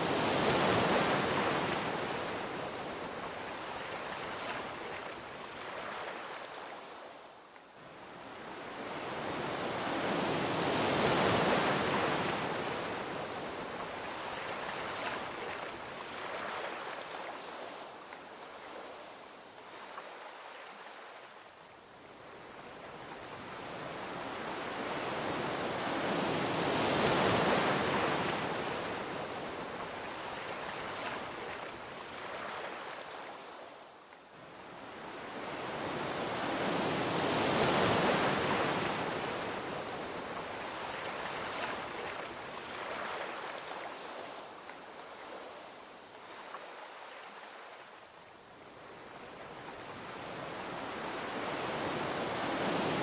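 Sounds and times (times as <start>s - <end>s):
ocean waves washing onto beach: 0.0s - 53.0s.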